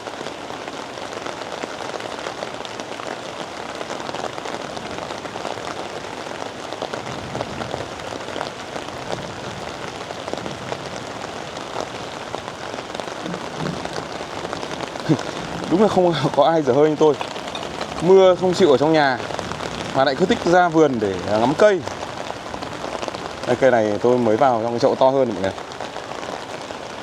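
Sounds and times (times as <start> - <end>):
rain pattering on leaves: 0.0 - 27.0.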